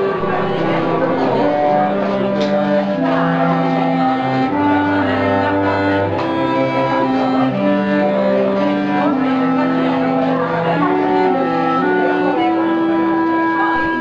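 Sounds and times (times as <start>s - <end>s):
cello: 0.0s - 14.0s
clarinet: 0.0s - 14.0s.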